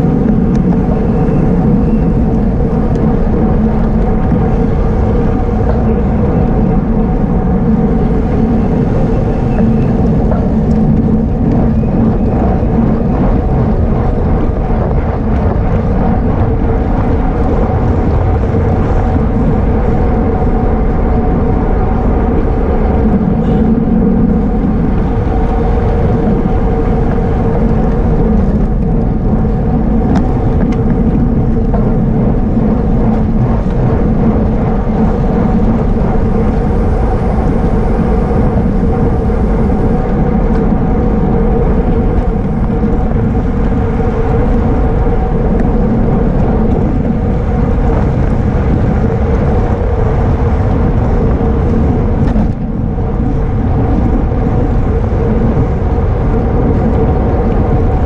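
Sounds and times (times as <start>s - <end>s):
constant hum: 0.0s - 58.0s
wind rushing on microphone: 0.0s - 58.0s.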